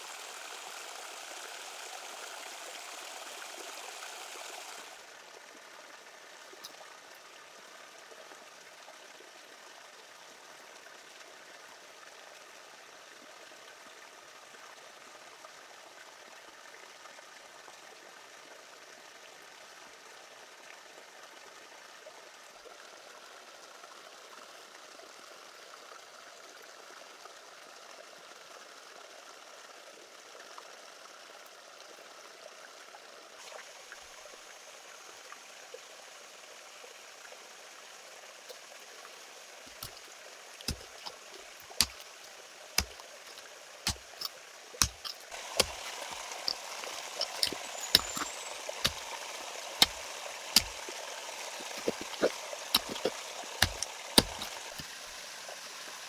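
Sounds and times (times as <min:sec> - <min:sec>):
faint flowing water: 0:00.0 - 0:56.0.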